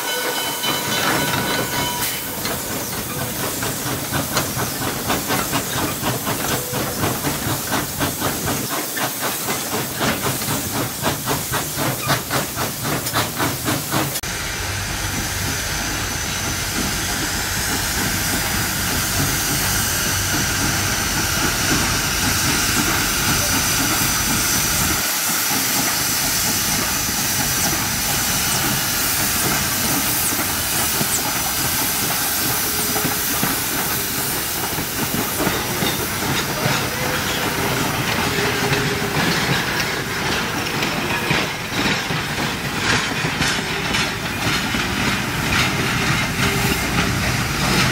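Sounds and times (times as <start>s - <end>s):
hiss of steam: 0.0s - 47.9s
train wheels clattering on rails: 0.0s - 47.9s.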